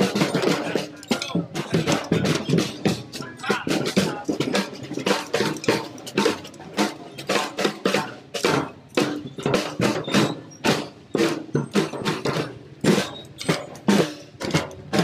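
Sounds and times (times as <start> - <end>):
children beating marching drums: 0.0 - 15.0.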